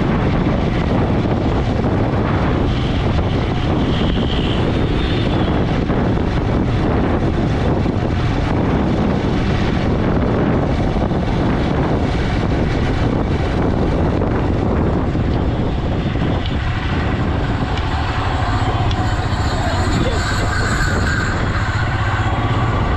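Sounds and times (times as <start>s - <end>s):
motorcycle engine drone: 0.0s - 22.9s
wind rushing over microphone: 0.0s - 22.9s.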